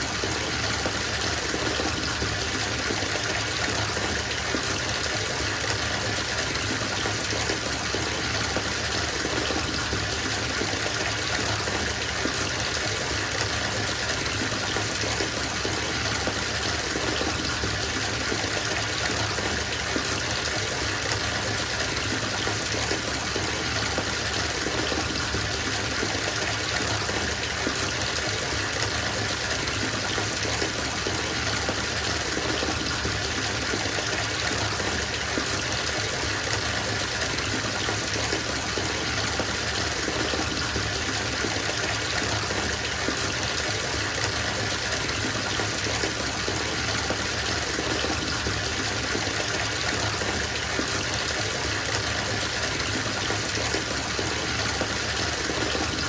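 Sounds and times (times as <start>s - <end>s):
tap water running into bathtub: 0.0s - 56.0s.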